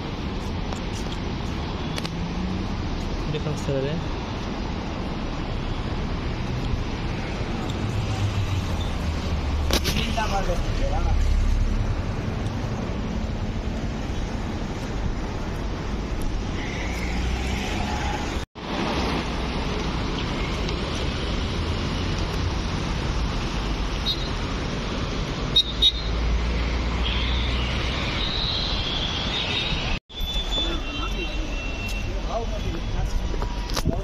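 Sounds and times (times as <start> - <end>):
road traffic: 0.0 - 34.0.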